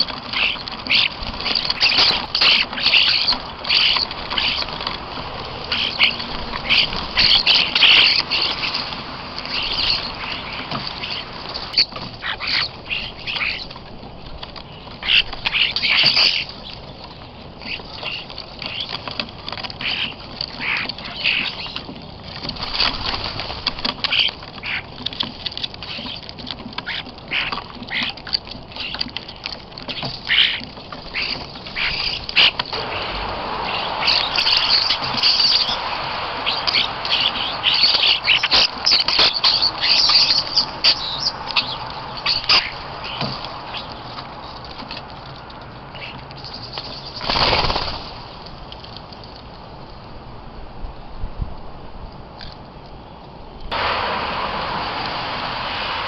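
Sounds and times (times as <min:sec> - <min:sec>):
small birds chirping: 0:00.0 - 0:48.8
steady rushing noise: 0:00.0 - 0:52.0, 0:53.5 - 0:56.0.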